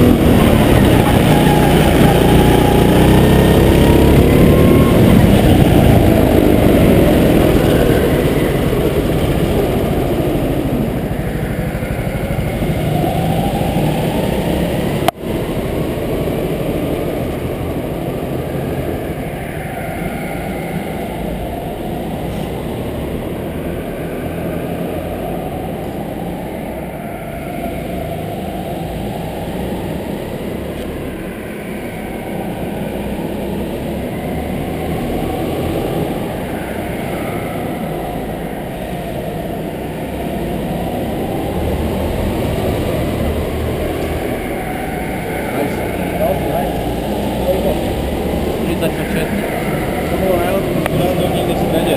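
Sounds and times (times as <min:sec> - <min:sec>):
go-kart engines droning: 0:00.0 - 0:51.9.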